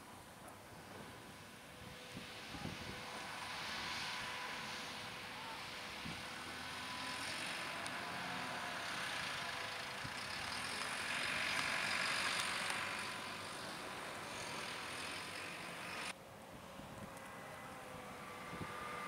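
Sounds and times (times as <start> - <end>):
diesel engine running: 0.0 - 16.2.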